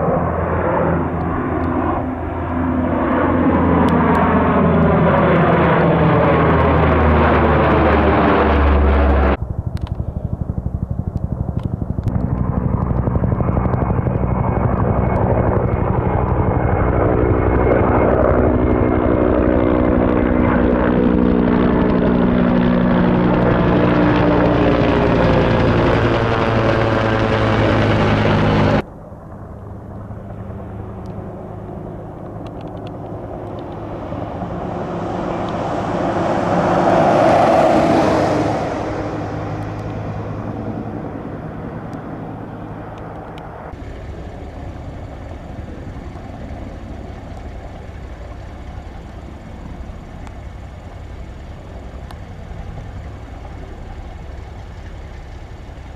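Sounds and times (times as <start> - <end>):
aircraft passing: 0.0 - 55.9
distant rotor drone: 0.0 - 55.9
helicopter turbine and rotor: 0.0 - 55.9.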